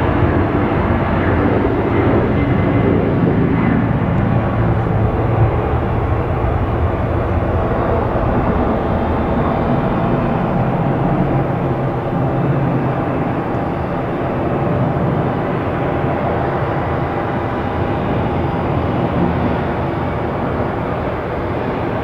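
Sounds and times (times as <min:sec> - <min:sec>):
jet engines on approach: 0:00.0 - 0:22.0.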